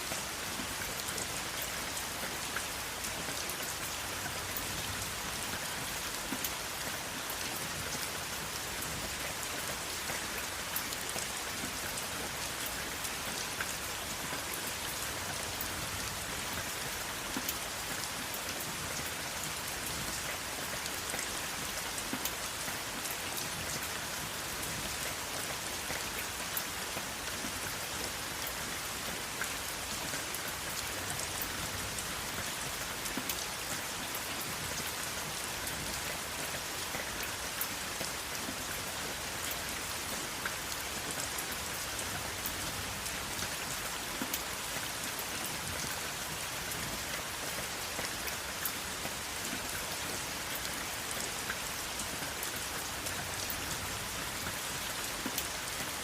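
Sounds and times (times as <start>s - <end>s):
steady rain spattering: 0.0s - 56.0s.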